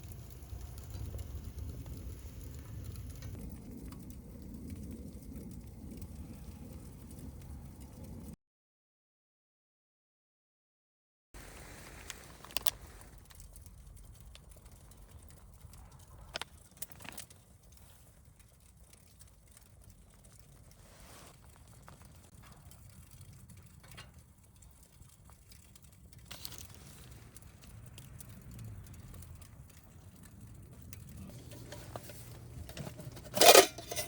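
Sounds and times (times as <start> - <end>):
fire crackles and pops: 0.0 - 8.4, 11.4 - 34.0
wood fire rumbling: 0.0 - 8.4, 11.4 - 34.0.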